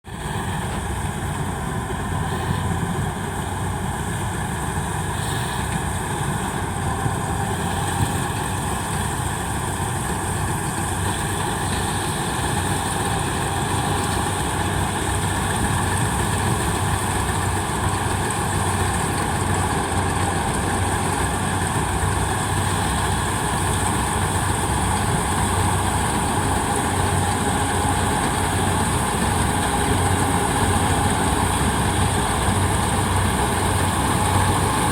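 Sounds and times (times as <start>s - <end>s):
combine harvester engine drone: 0.1s - 34.9s
high-pitched machinery whine: 0.1s - 34.9s.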